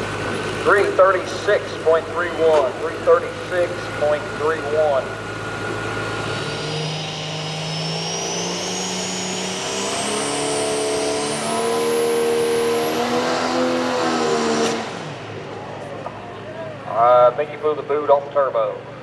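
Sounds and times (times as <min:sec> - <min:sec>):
diesel truck engine revving: 0:00.0 - 0:19.0.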